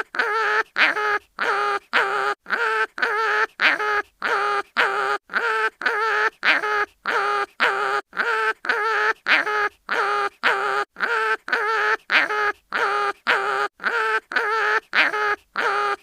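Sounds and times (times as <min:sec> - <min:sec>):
cartoon animal crying in pain: 0:00.0 - 0:16.0.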